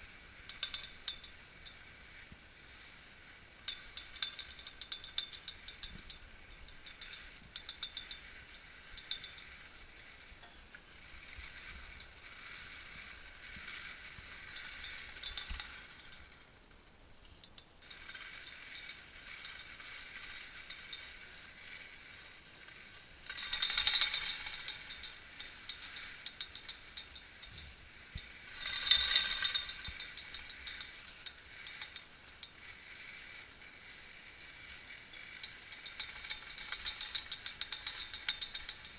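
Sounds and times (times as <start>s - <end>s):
lift hanger rattling: 0.4s - 1.8s, 3.6s - 21.9s, 22.8s - 32.6s, 35.1s - 38.9s.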